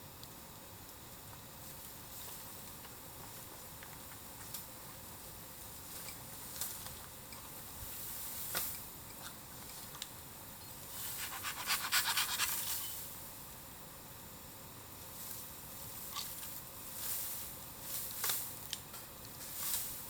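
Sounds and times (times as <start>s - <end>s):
bamboo crackling in fire: 0.0s - 20.0s.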